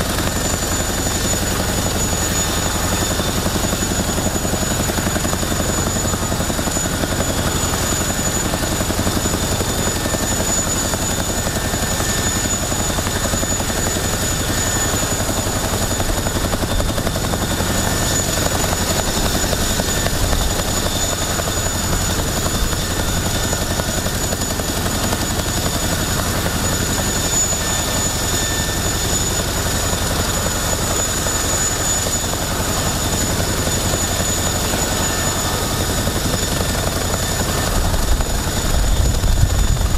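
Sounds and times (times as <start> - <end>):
helicopter turbine engines running: 0.0 - 39.9.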